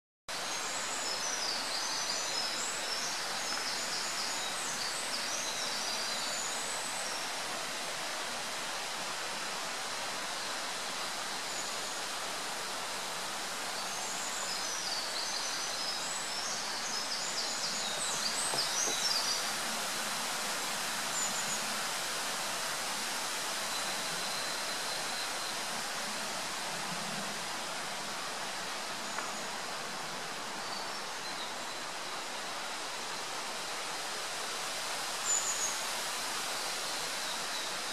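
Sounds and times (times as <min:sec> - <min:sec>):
steady hiss: 0:00.3 - 0:37.9.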